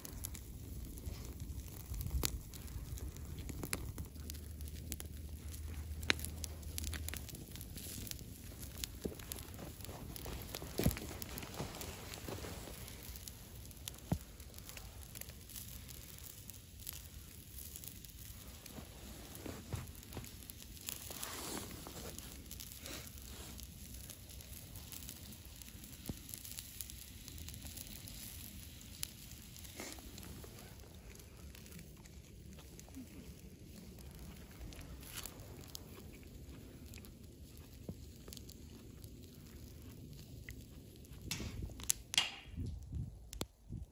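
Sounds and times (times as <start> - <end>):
campfire crackling and hissing: 0.0 - 43.9.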